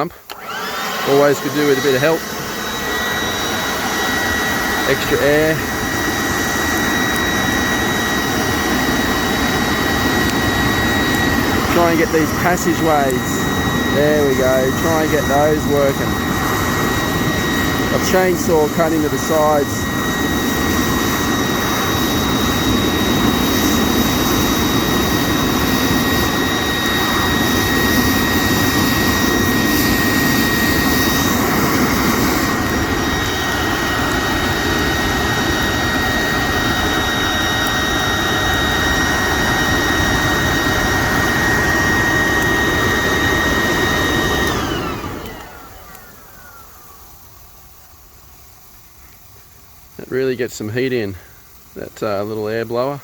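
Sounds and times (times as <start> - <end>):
air blower whining: 0.0 - 48.5.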